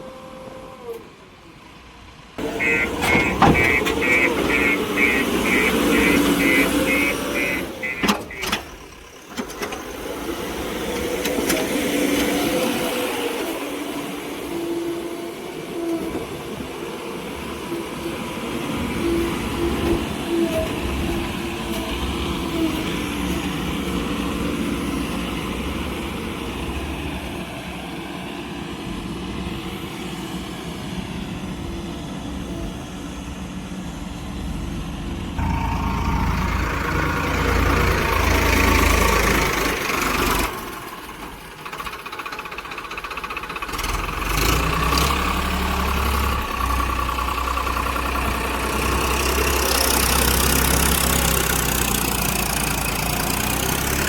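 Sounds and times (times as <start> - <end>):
heavy vehicle engine running: 1.1 - 14.5, 16.3 - 54.0.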